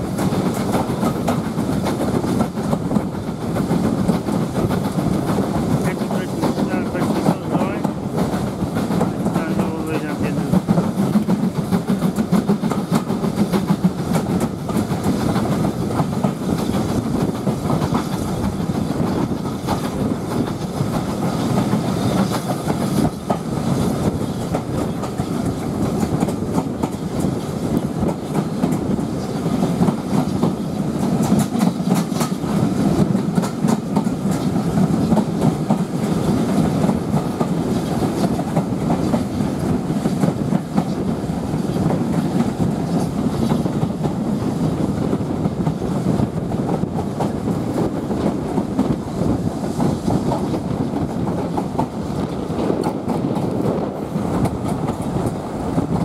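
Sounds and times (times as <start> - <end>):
train rumble: 0.0 - 56.0
wheels clattering over rails: 0.0 - 56.0.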